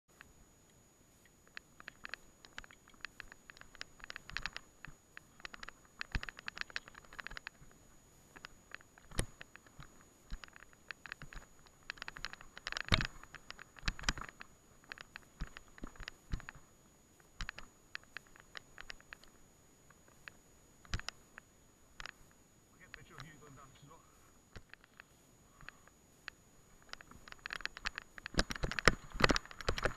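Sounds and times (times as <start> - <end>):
bike clicking and rattling: 1.5 - 21.4, 22.0 - 23.4, 24.6 - 26.0, 26.8 - 29.9.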